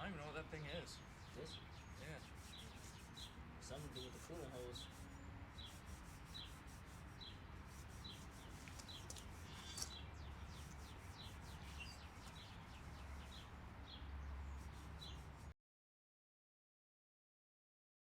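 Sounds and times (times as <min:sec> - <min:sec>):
bird chirping faintly: 0:00.0 - 0:15.5.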